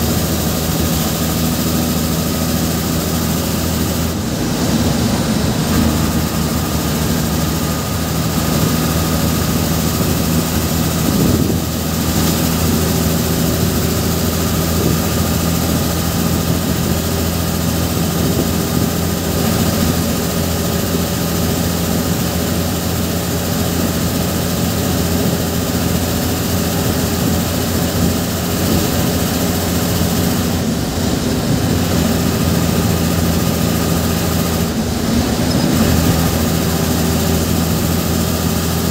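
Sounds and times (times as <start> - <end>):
bus diesel engine running: 0.0 - 38.9
road and wind noise: 0.0 - 38.9.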